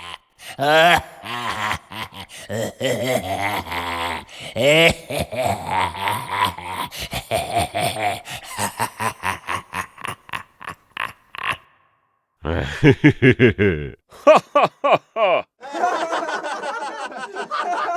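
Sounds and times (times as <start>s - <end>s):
man laughing: 0.0s - 11.8s, 12.4s - 17.9s.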